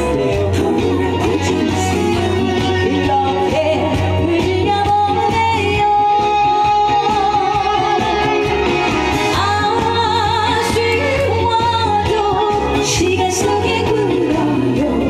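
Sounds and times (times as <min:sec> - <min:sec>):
loud backing music: 0:00.0 - 0:15.0
woman singing with vibrato: 0:00.1 - 0:02.1, 0:02.8 - 0:15.0.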